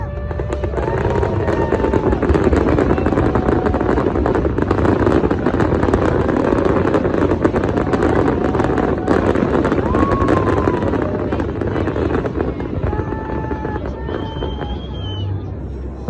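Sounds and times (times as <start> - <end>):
fireworks popping and crackling: 0.0 - 15.6.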